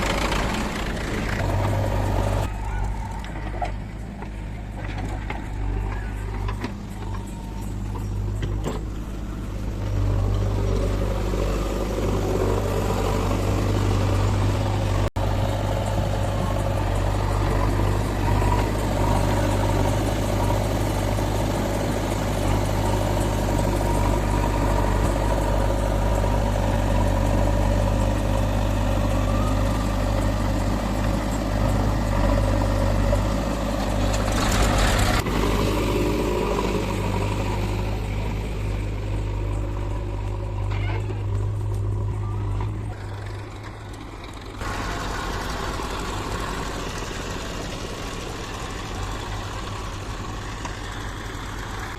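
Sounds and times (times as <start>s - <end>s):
diesel engine droning: 0.0s - 51.9s
high machinery whine: 0.0s - 51.9s.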